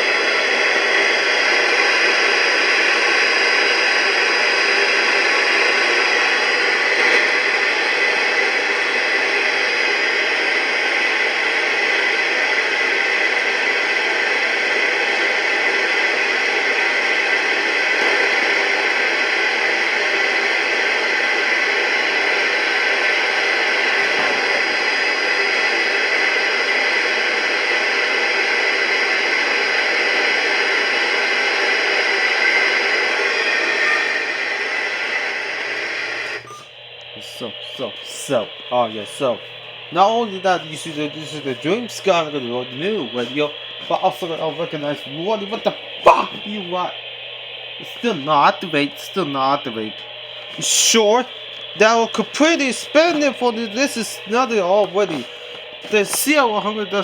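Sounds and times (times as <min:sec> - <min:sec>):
radio static hissing: 0:00.0 - 0:57.0.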